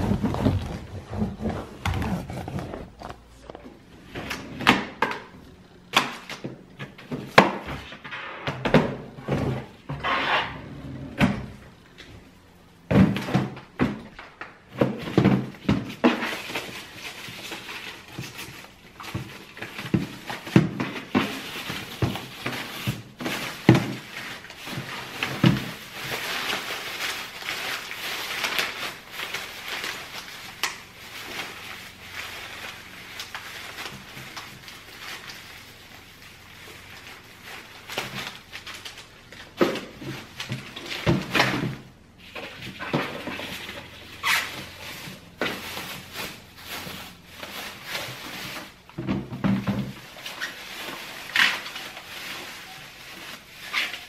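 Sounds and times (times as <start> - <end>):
plastic bin bags rustling: 0.0 - 54.0.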